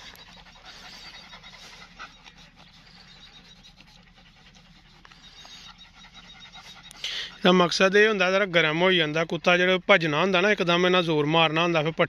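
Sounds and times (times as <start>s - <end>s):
dog panting softly: 0.0s - 12.0s.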